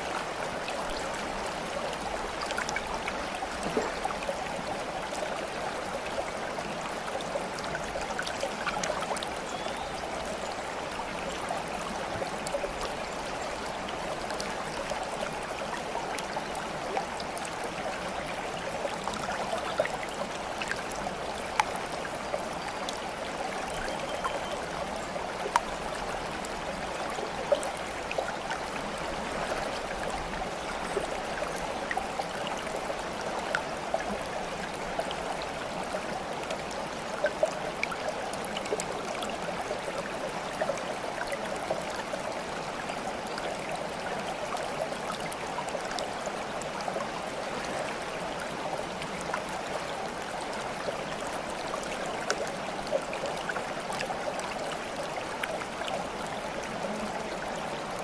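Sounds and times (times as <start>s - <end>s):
running water stream: 0.0s - 58.0s
water trickling and dripping: 0.0s - 58.0s.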